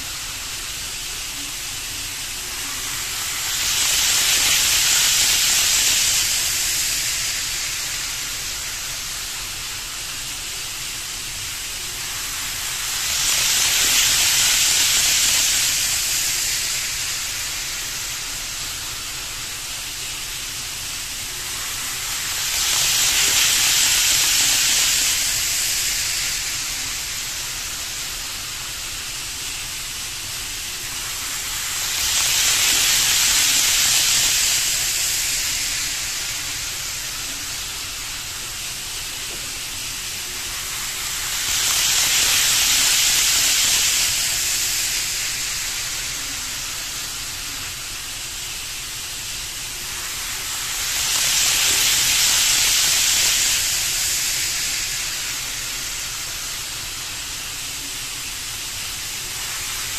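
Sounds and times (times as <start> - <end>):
model train rolling hiss: 0.0 - 59.9.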